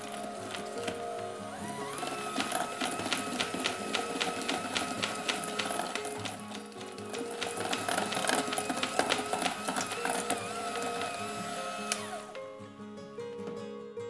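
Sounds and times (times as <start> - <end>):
mixer motor winding down: 0.0 - 12.5
electric hand mixer whining: 0.0 - 12.6
background music: 0.0 - 14.0.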